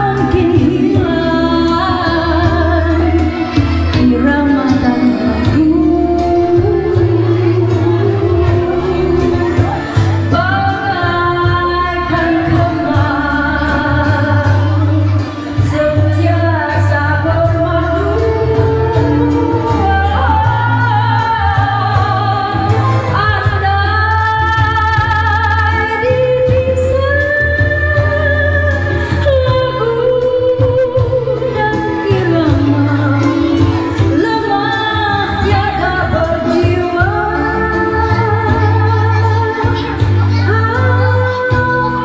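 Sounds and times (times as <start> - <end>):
backing track with bass line: 0.0 - 42.0
woman singing into a microphone: 0.0 - 42.0.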